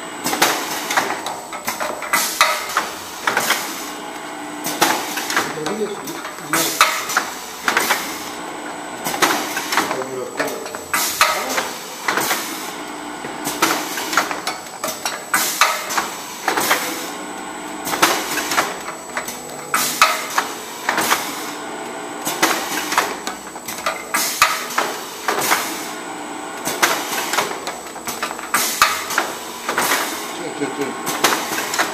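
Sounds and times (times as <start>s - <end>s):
pneumatic actuators clacking: 0.2s - 4.0s, 4.6s - 17.2s, 17.8s - 21.6s, 22.2s - 26.0s, 26.6s - 31.9s.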